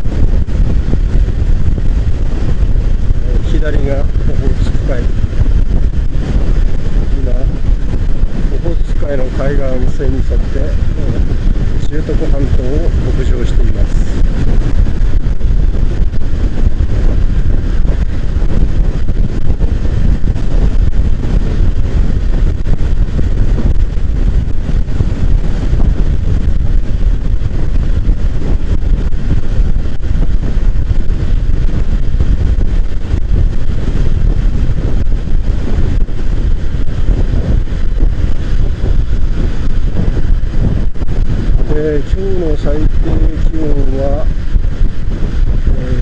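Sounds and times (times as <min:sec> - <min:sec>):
motorcycle running: 0:00.0 - 0:46.0
road noise: 0:00.0 - 0:46.0
wind rush on microphone: 0:00.0 - 0:46.0.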